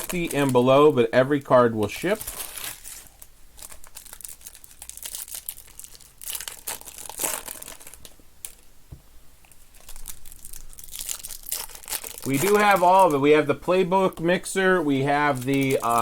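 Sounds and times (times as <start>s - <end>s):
card pack wrappers crinkling and tearing: 0.0s - 8.7s, 9.4s - 16.0s.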